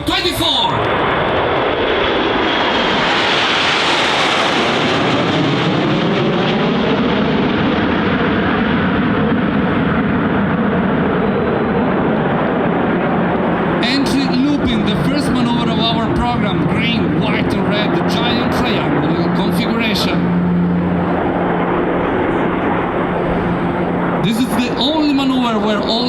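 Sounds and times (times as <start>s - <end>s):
jets flying past: 0.0s - 26.0s.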